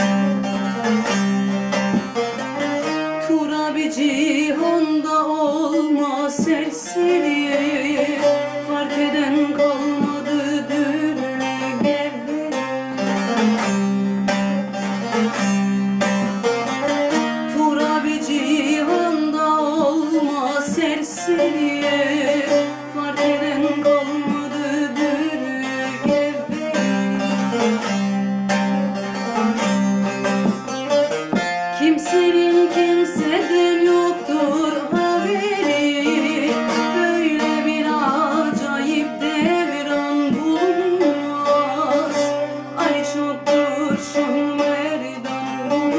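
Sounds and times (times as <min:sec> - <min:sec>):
plucked lute with drone notes: 0:00.0 - 0:45.9.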